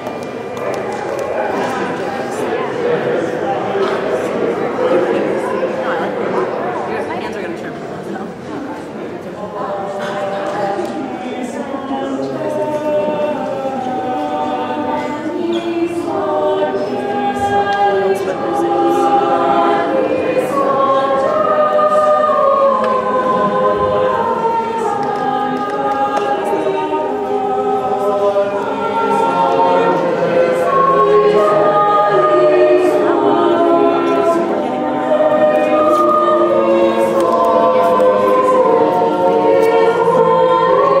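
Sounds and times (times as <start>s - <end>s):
mixed choir singing: 0.0s - 41.0s.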